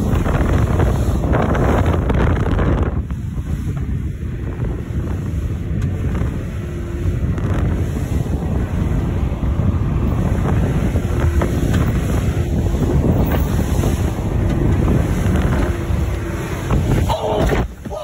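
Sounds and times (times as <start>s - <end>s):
water splashing against hull: 0.0s - 18.0s
wind buffeting microphone: 0.0s - 18.0s.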